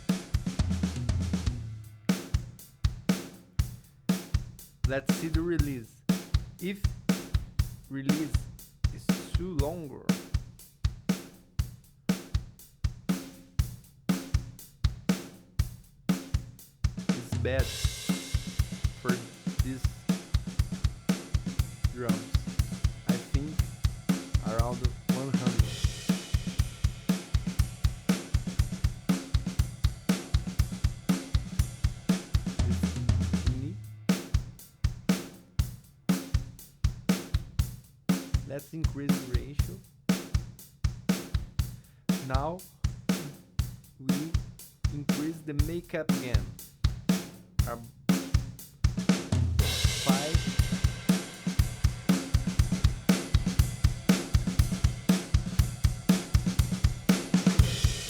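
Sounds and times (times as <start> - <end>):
drum kit groove: 0.0 - 58.0.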